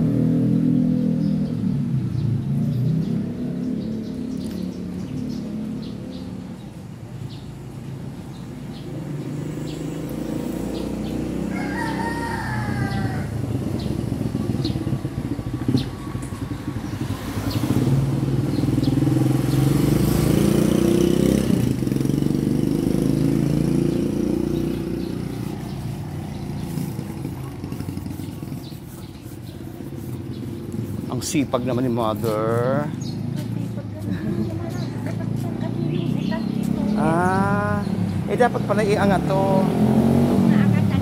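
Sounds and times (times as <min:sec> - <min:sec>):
vehicle engine passing: 0:00.0 - 0:41.0.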